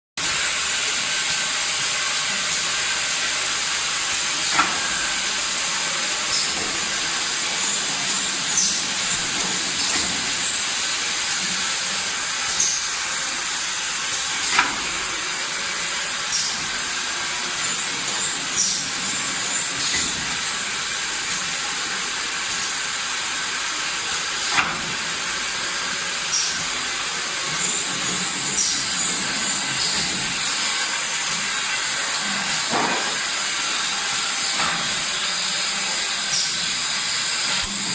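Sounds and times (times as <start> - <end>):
machinery hissing: 0.2 - 37.9.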